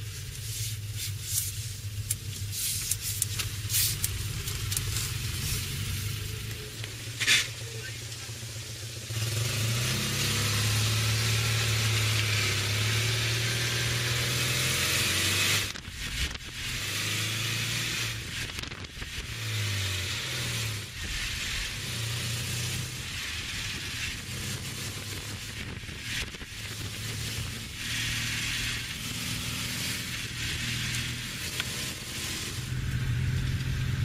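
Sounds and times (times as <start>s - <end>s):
car engine running: 0.0s - 34.0s
wind and road noise: 0.0s - 34.0s.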